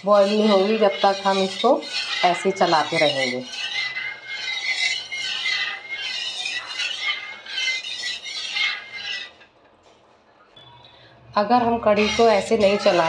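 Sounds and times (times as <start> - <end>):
metal ladle scraping metal pan: 0.0 - 9.5, 11.6 - 13.0.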